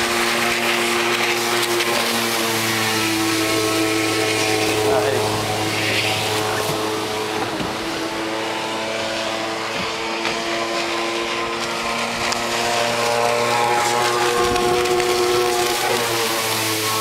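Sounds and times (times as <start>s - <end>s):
motorboat engine running: 0.0s - 17.0s
wind and water rushing: 0.0s - 17.0s.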